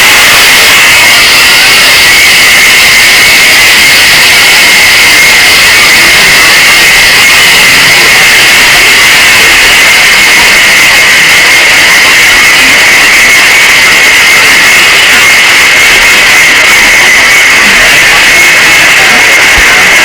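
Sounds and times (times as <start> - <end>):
loud distorted shrill noise: 0.0 - 20.0.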